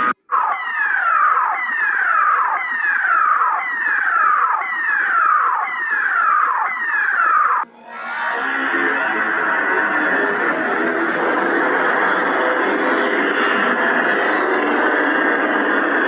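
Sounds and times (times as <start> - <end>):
electronic siren wail sweeping down: 0.0 - 16.0.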